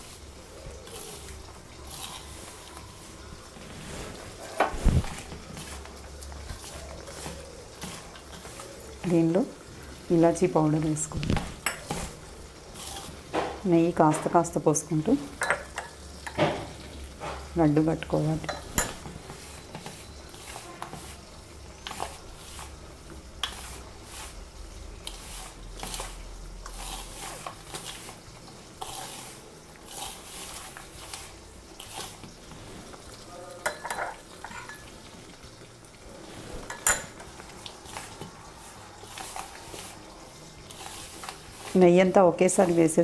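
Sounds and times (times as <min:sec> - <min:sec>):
hands mixing crumbly dough: 0:00.0 - 0:15.4, 0:16.7 - 0:43.0.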